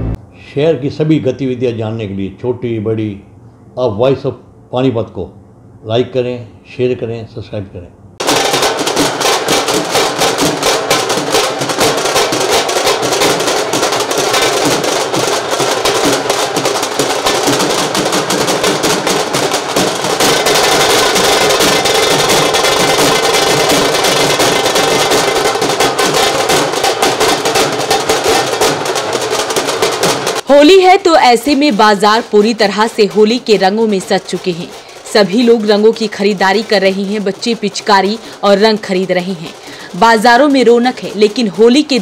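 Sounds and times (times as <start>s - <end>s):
music with fast drum beat: 8.2s - 42.0s.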